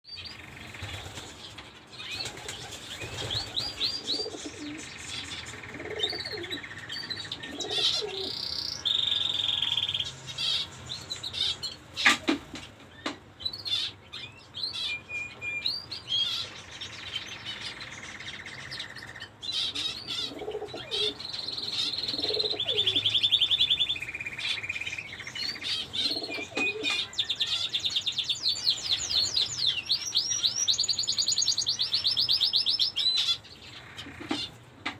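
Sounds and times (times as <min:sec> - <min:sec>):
finches chirping and calling: 0:00.1 - 0:34.6.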